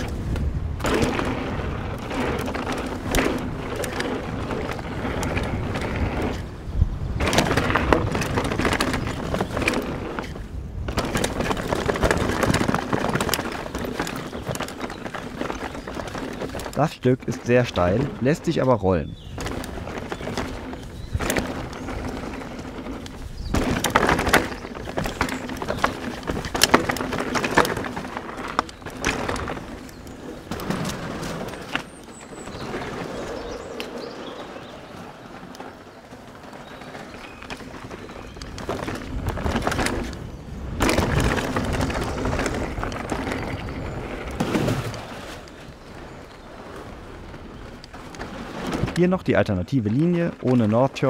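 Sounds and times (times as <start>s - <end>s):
bike frame and chain rattling: 0.0s - 49.2s
bike tyres rumbling over rocks: 0.0s - 51.0s.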